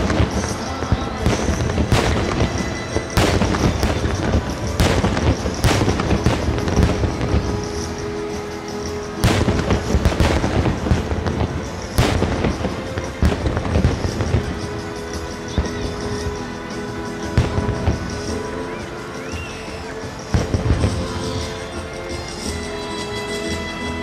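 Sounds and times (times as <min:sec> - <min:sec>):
fireworks booms and cracks: 0:00.0 - 0:22.6
music playing: 0:00.0 - 0:24.0.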